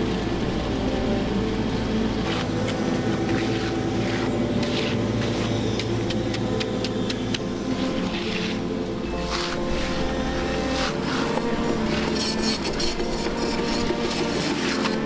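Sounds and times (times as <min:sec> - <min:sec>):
construction machine engine running: 0:00.0 - 0:15.0.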